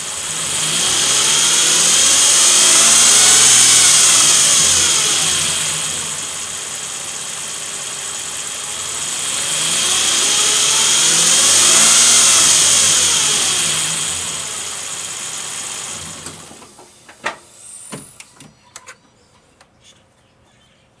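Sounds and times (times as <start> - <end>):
engine running with high whine: 0.0 - 18.2.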